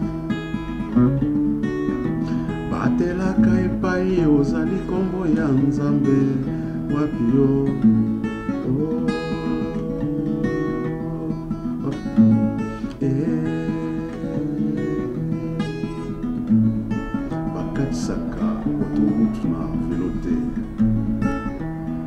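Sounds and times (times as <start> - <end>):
acoustic guitar strumming: 0.0 - 22.0
man singing: 2.4 - 21.6.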